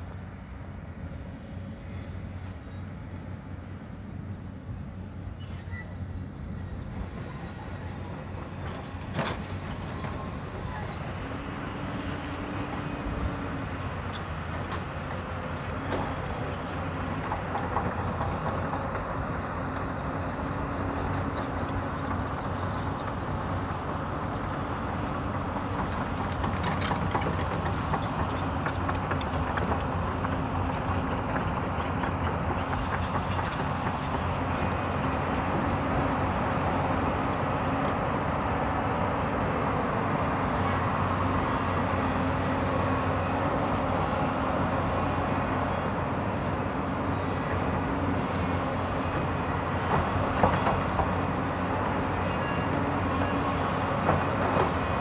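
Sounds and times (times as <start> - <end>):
excavator diesel engines running: 0.0 - 55.0.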